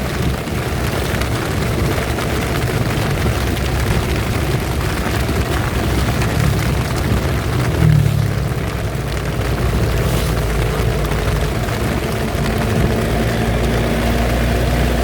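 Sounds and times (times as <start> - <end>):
heavy rain falling: 0.0 - 15.0
low rumble: 1.2 - 15.0.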